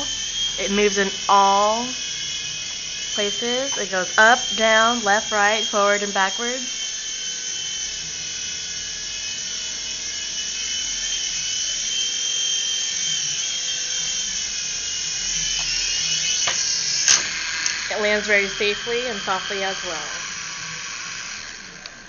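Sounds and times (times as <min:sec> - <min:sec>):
toy helicopter motors whining: 0:00.0 - 0:22.0.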